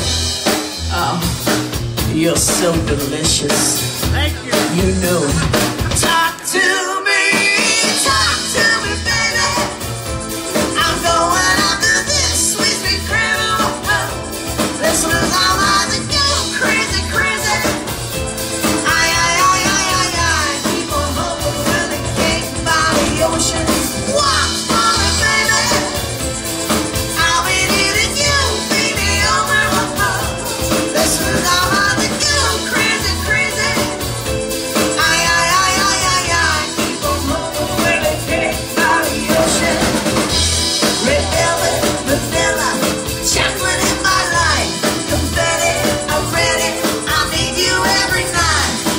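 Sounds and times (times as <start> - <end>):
drum beat: 0.0 - 48.9
live rock band playing: 0.0 - 48.9.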